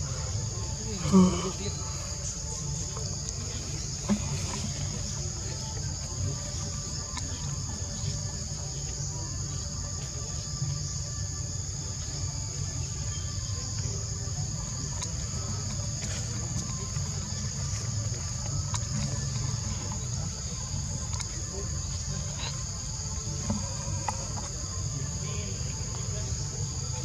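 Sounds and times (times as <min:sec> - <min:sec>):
insect chorus drone: 0:00.0 - 0:27.0.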